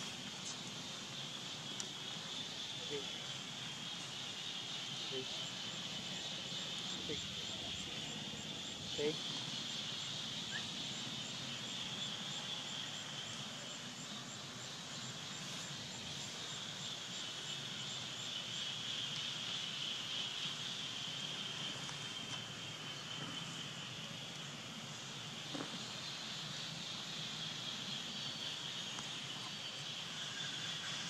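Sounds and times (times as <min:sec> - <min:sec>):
insect chorus drone: 0:00.0 - 0:31.0.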